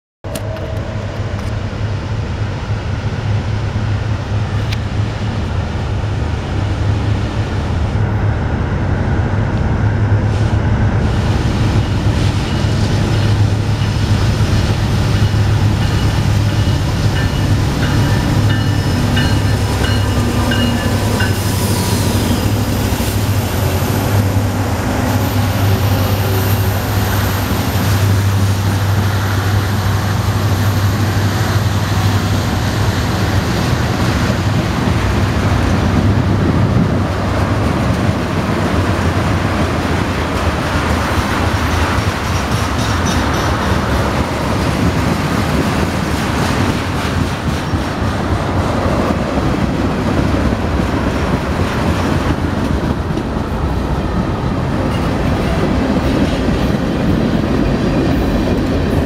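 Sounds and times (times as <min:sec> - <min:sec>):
diesel locomotive rumble: 0:00.2 - 0:59.0.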